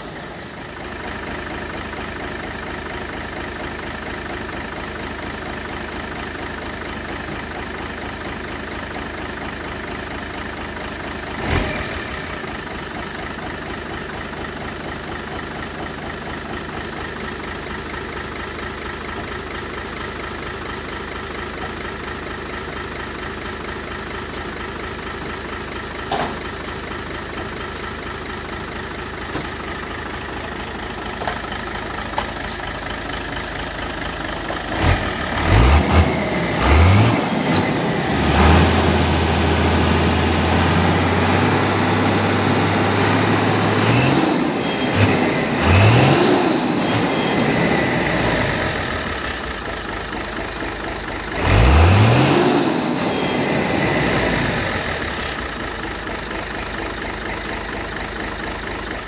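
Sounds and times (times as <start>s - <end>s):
truck engine idling and revving: 0.0s - 59.0s.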